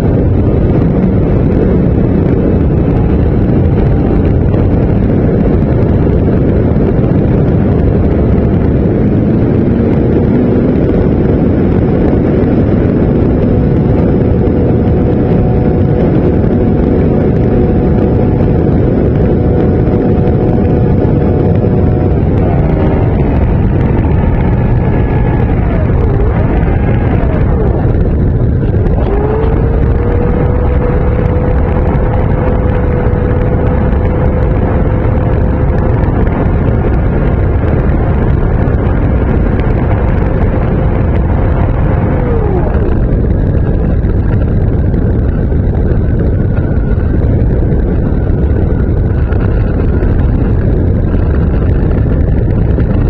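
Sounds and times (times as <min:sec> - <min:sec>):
model airplane motor whine: 0:00.0 - 0:53.0
wind rush: 0:00.0 - 0:53.0.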